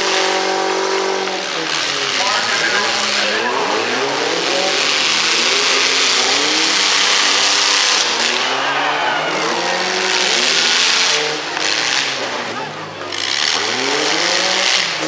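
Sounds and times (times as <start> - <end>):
pickup truck engines revving: 0.0 - 15.0.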